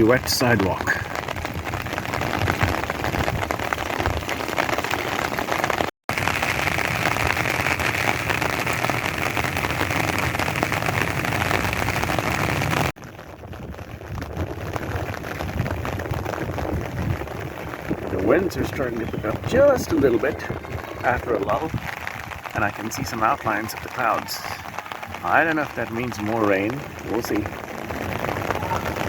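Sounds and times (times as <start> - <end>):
rain on wet pavement: 0.0 - 29.0.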